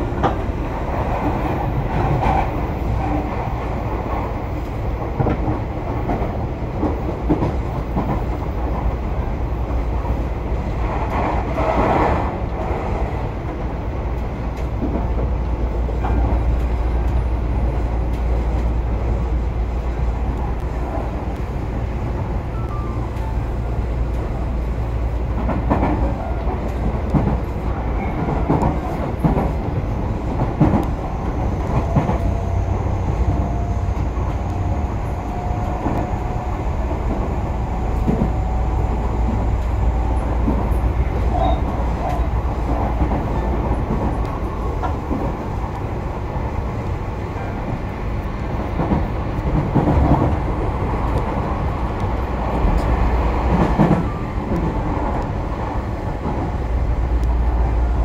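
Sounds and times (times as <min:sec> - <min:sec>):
track clacks and knocks: 0:00.0 - 0:58.0
train wheels rumbling on rail: 0:00.0 - 0:58.0.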